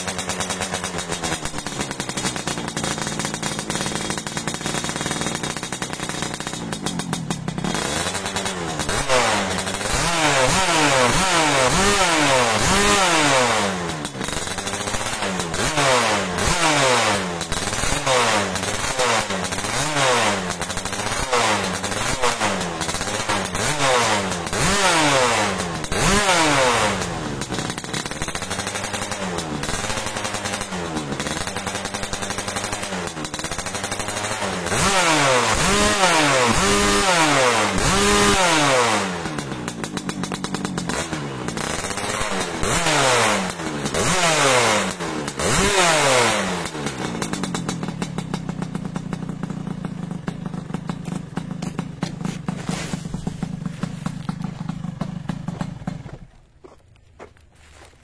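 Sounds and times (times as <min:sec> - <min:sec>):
two-stroke engine revving: 0:00.0 - 0:56.8
engine idling: 0:00.0 - 0:57.9.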